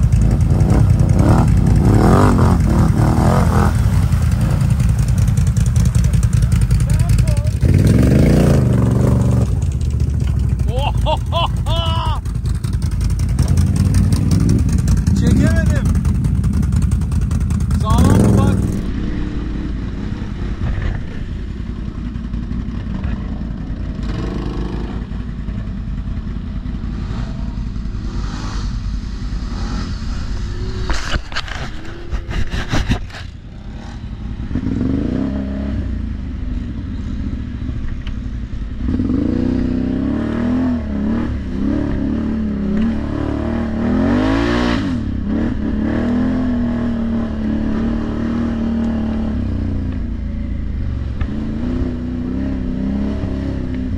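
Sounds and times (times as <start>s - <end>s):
atv engine revving: 0.0s - 38.2s, 38.8s - 53.9s.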